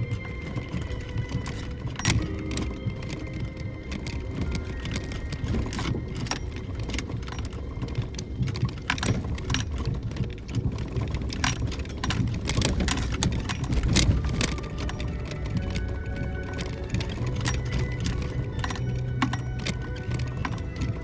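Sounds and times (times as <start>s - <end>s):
car engine and tyres rumbling: 0.0s - 21.0s
loose items rattling in car: 0.0s - 21.0s.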